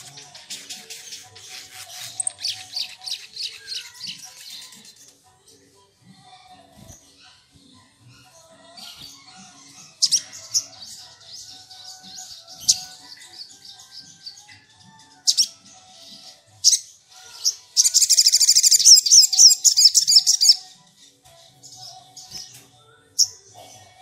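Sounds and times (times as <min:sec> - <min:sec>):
rapid twittering birdsong: 0:00.0 - 0:05.2, 0:06.8 - 0:23.4.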